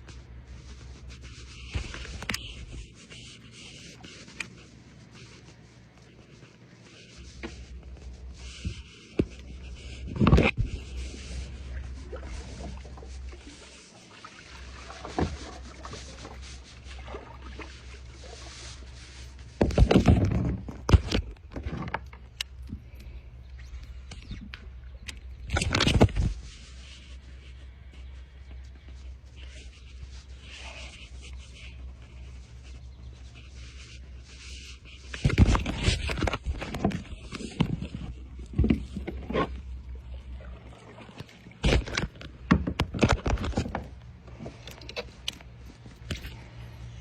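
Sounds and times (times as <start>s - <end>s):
gear knocking and scraping on kayak: 0.0s - 47.0s.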